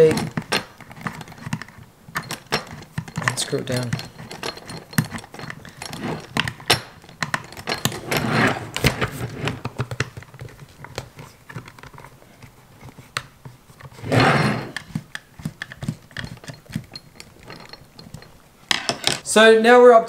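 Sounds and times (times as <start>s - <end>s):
scraping rustles: 0.0s - 19.2s.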